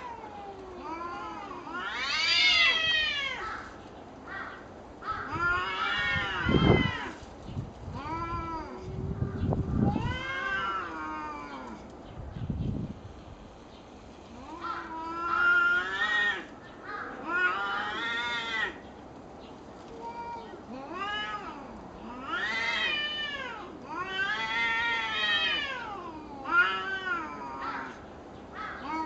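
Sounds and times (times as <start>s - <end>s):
cats yowling: 0.0s - 7.2s, 7.9s - 11.9s, 14.4s - 18.8s, 19.9s - 28.0s, 28.6s - 29.0s.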